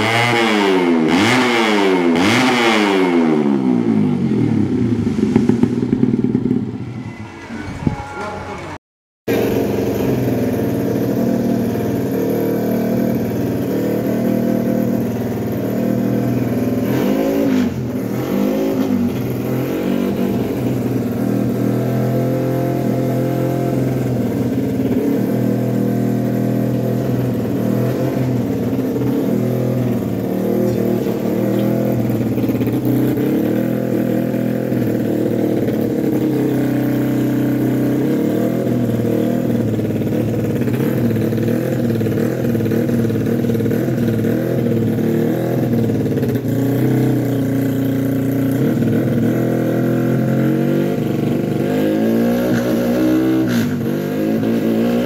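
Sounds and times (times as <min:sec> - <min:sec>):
motorcycle engine idling: 0:03.8 - 0:07.2, 0:09.3 - 0:52.0.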